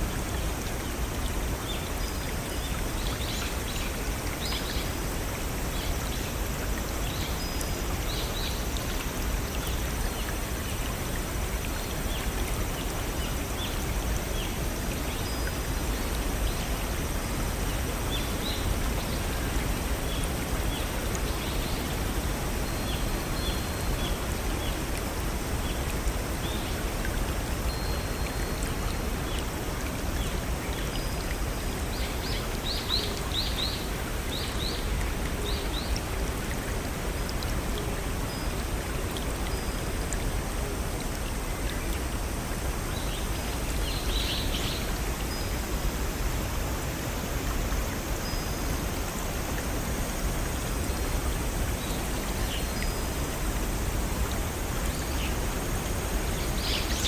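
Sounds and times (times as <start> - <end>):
brook rushing over waterfalls: 0.0 - 57.0.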